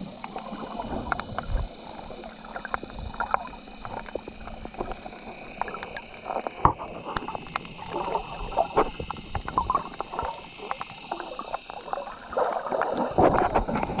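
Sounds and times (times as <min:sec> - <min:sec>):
faint high whine: 0:00.0 - 0:14.0
underwater swishing and bubbling: 0:00.0 - 0:14.0.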